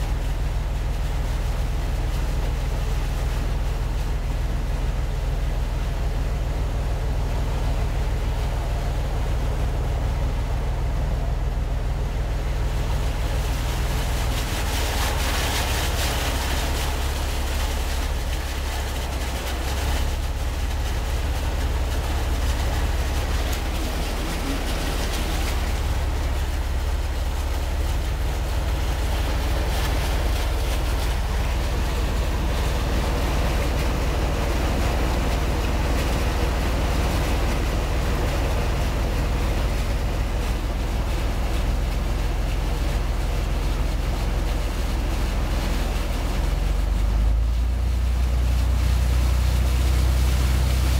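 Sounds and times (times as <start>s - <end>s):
vehicle engine low hum: 0.0s - 50.9s
water splashing around wheels: 0.0s - 50.9s.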